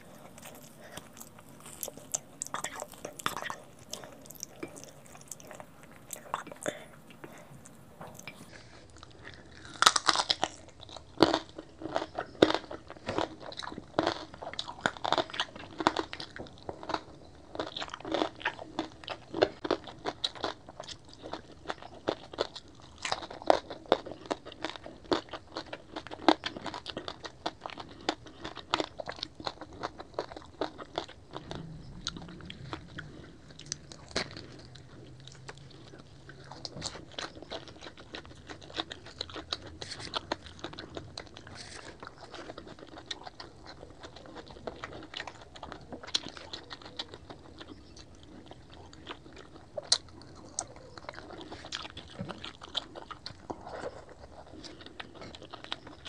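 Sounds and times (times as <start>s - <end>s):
crunching crispy bites: 0.0s - 8.3s, 9.0s - 56.0s
wet chewing: 0.0s - 56.0s.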